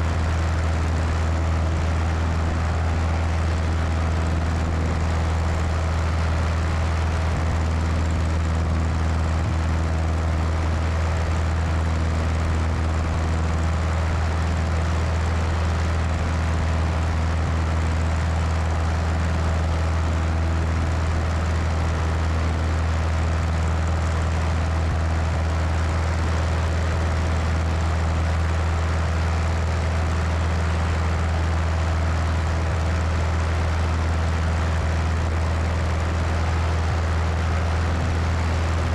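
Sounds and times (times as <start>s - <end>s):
airplane engine and propeller: 0.0s - 38.9s.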